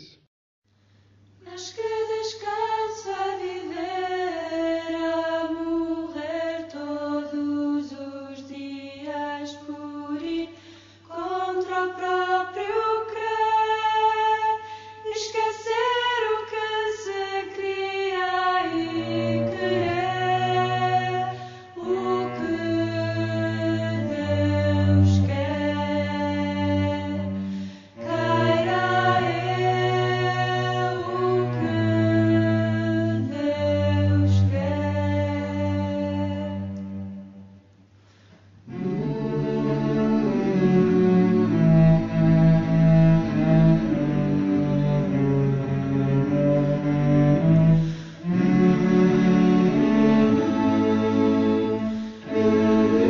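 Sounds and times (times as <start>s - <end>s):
choral singing: 1.4s - 37.4s, 38.7s - 53.0s.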